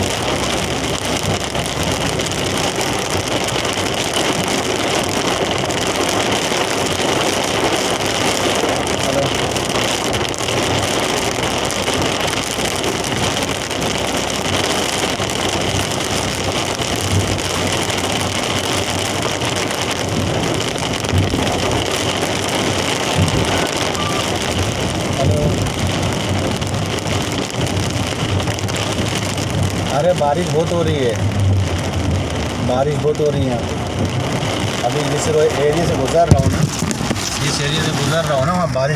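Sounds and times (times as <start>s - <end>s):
heavy rain on a vehicle: 0.0s - 38.9s
tyres on a wet road: 0.0s - 38.9s.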